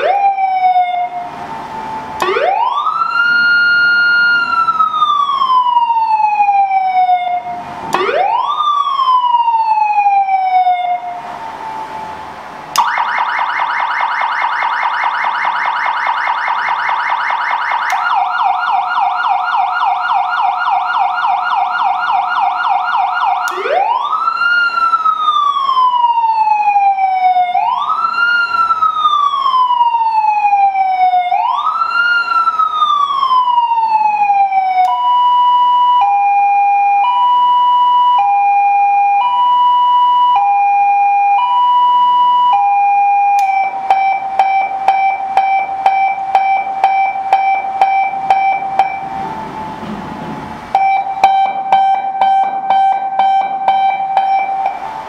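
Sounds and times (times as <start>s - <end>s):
electronic vehicle siren: 0.0s - 55.0s.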